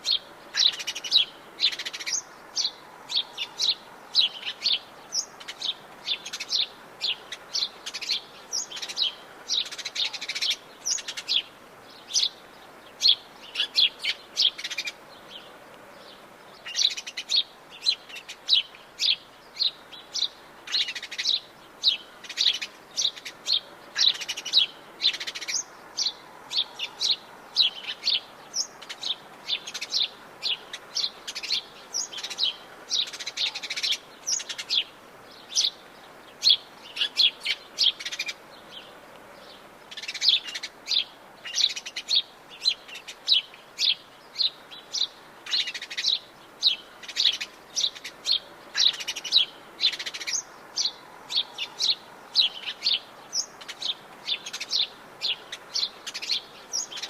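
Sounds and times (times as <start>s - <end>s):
faint background hiss: 0.0s - 57.0s
small birds chirping: 0.0s - 57.0s.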